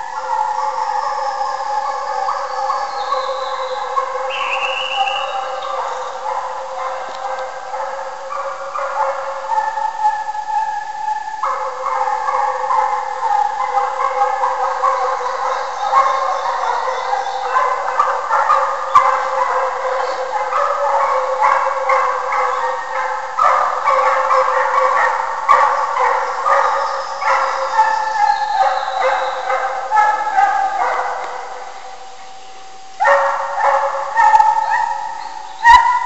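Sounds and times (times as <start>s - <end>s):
hounds baying: 0.0s - 32.0s, 33.0s - 36.0s.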